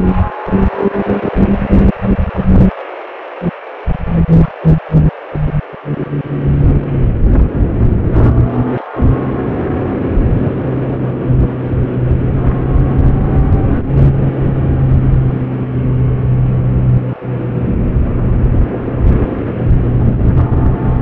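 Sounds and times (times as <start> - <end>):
motorcycle engine running: 0.0 - 2.7, 3.9 - 21.0.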